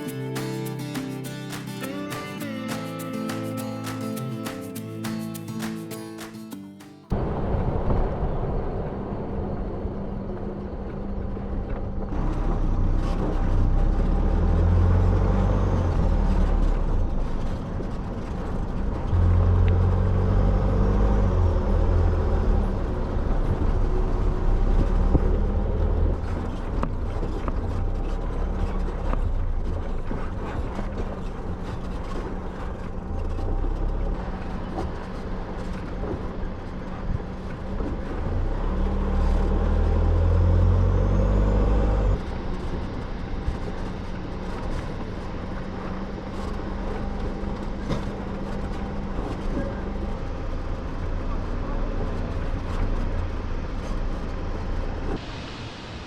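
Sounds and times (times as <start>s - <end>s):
vehicle engine rumble: 7.1s - 55.2s
tyre and wind noise: 10.4s - 56.0s.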